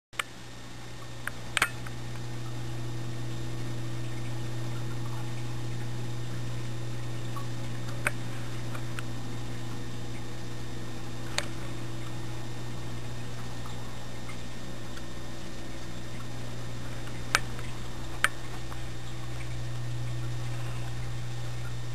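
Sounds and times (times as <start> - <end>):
low hum and hiss: 0.2 - 21.9.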